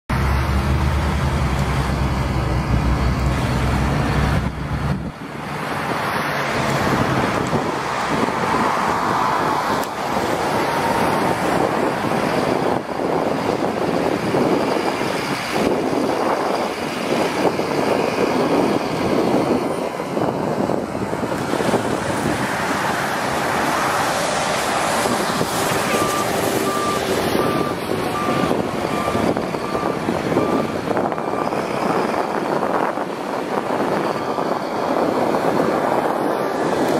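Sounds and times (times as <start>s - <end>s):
diesel truck engine driving: 0.1s - 36.9s.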